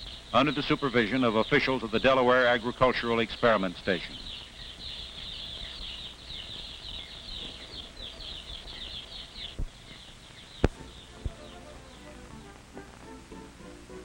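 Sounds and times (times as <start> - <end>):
chicks peeping: 0.0 - 13.6.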